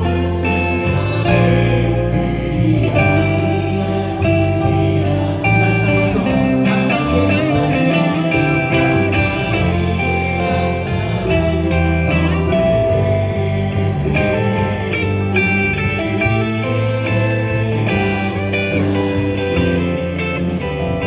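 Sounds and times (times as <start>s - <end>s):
electric guitar: 0.0s - 21.0s
worship band playing: 0.0s - 21.0s.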